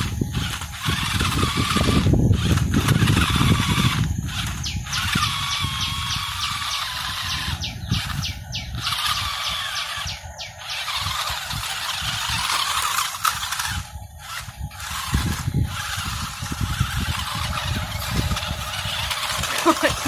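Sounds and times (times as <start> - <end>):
toy electric motors whining: 0.0 - 20.0.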